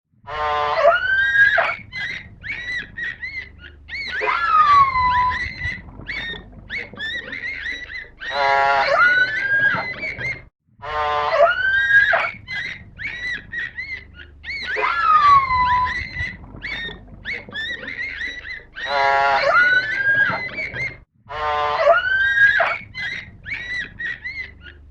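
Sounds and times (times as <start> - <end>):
whale whistles: 0.3 - 24.5.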